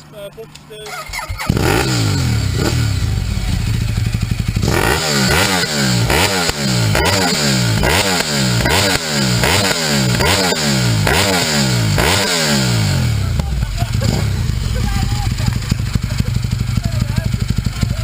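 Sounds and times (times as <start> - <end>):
motorcycle engine revving: 0.9 - 18.0.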